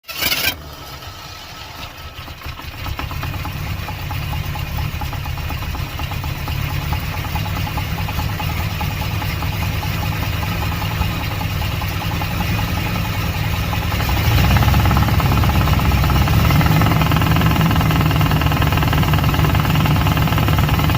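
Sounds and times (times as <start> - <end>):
car engine idling: 0.1 - 20.9
fast rhythmic ticking: 2.8 - 20.9.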